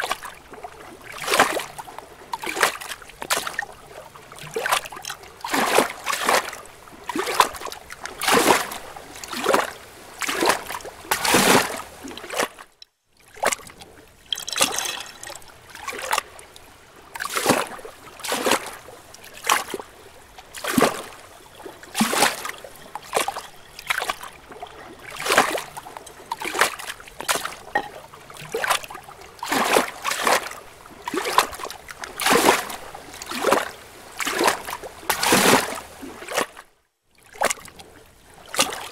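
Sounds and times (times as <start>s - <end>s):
water splashing and sloshing: 0.0s - 38.9s.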